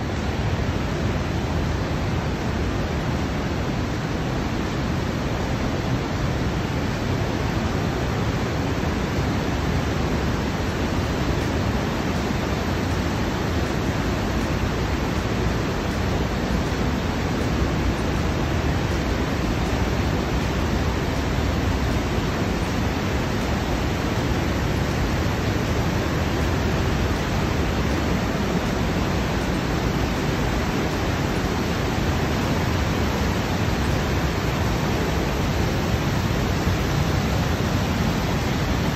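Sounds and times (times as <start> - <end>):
torrent rushing through gorge: 0.0 - 38.9.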